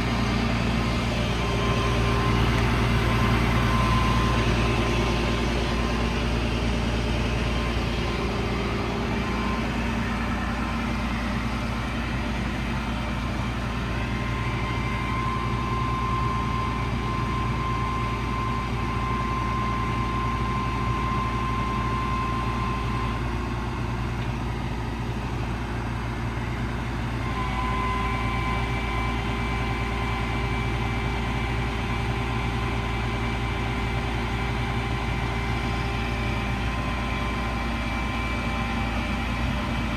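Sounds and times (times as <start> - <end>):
diesel engine running: 0.0 - 39.9
high hydraulic whine: 0.0 - 39.9.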